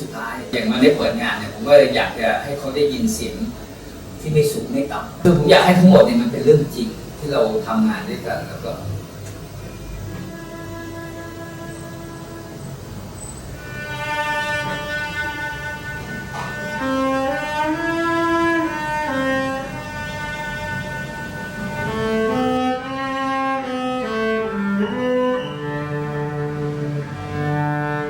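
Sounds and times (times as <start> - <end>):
cello melody: 0.0 - 28.0.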